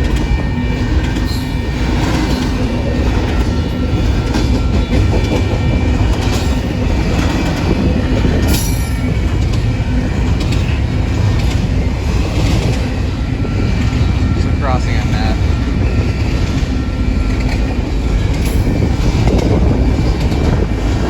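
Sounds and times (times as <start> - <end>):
clacks over rail joints: 0.0 - 21.0
train wheels rumbling on rails: 0.0 - 21.0.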